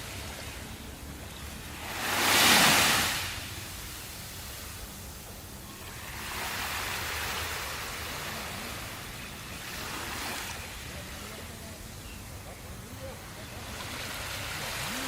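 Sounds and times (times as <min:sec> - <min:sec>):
surf washing onto shore: 0:00.0 - 0:15.0.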